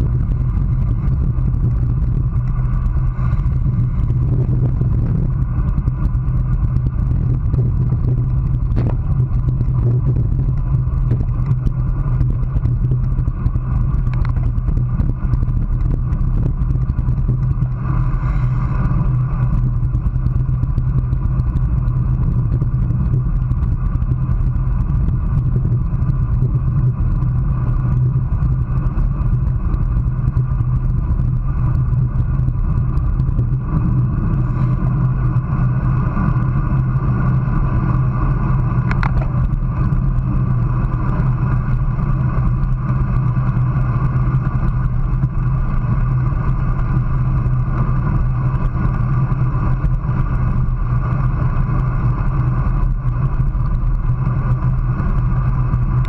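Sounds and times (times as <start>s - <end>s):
road rumble: 0.0s - 56.0s
wind rush: 0.0s - 56.0s.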